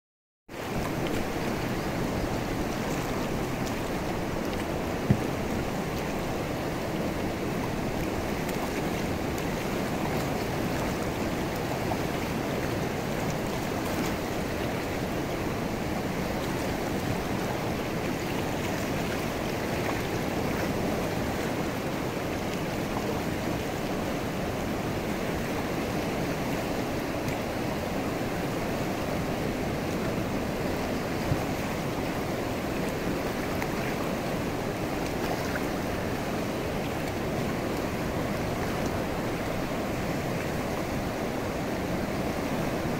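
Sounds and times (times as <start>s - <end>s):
river rushing over rocks: 0.5s - 42.9s.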